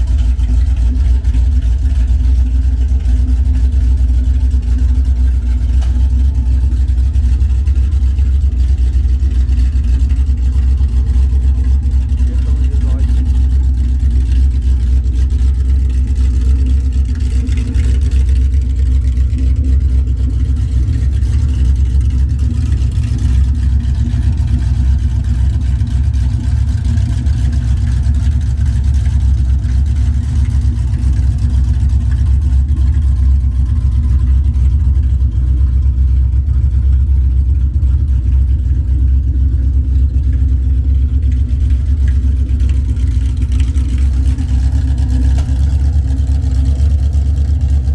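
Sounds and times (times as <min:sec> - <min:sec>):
car engine running with open headers: 0:00.0 - 0:47.9.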